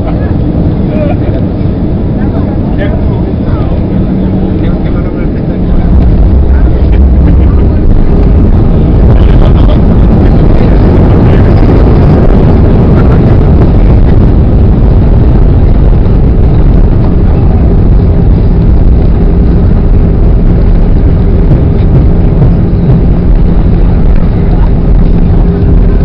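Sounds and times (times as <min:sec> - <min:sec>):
faint steady hum: 0:00.0 - 0:26.0
jet cabin engine rumble: 0:00.0 - 0:26.0
rushing air: 0:00.0 - 0:26.0.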